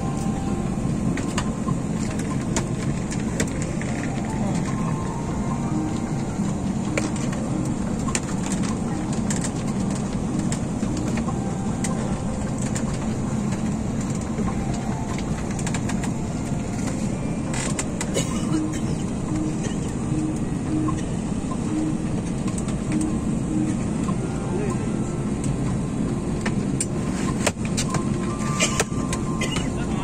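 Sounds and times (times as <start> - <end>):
cabin air-conditioning rushing: 0.0 - 30.0
passengers talking indistinctly: 0.0 - 30.0.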